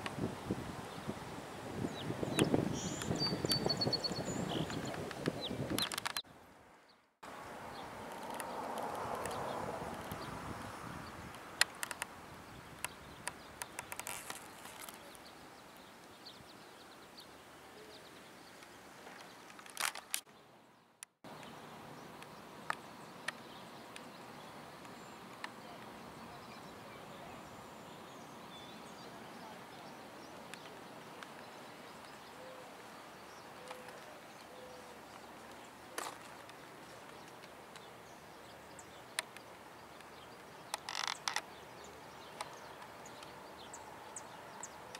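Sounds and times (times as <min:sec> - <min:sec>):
faint outdoor background noise: 0:00.0 - 0:44.9.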